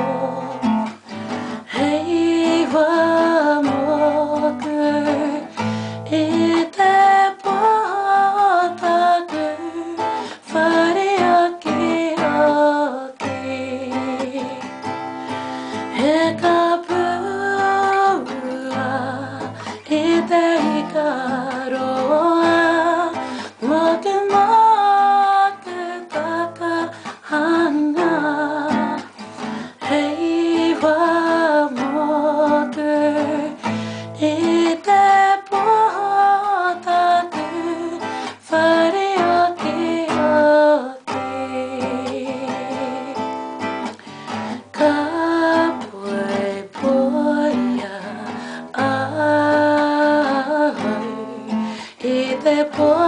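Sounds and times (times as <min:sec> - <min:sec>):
acoustic guitar strumming: 0:00.0 - 0:53.0
person singing: 0:00.0 - 0:53.0.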